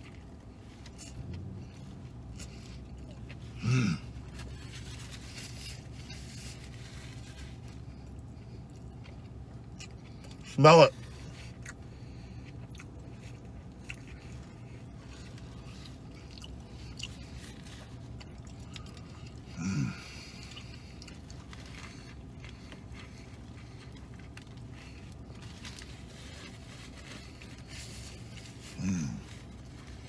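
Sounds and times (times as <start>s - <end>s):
man chewing a burger: 0.0s - 30.0s
steady low hum: 0.0s - 30.0s.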